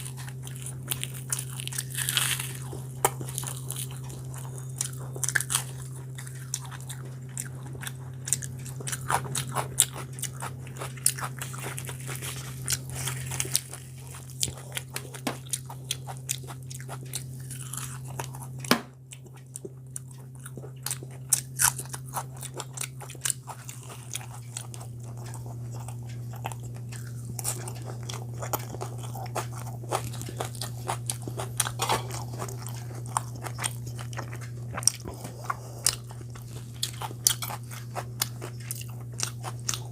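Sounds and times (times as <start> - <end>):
person chewing crunchy food: 0.0 - 39.9
steady low hum: 0.0 - 39.9.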